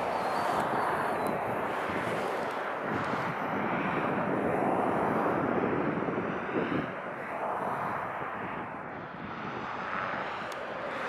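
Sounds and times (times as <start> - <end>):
distant road traffic: 0.0 - 11.0.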